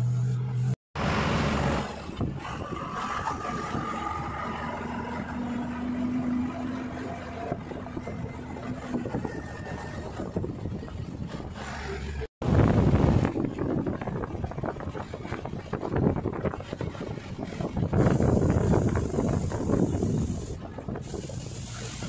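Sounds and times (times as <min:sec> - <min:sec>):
truck driving on rough road: 0:00.0 - 0:22.0.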